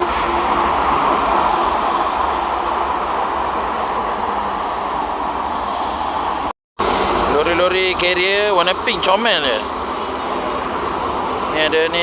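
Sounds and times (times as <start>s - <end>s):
trucks and buses passing: 0.0s - 12.0s.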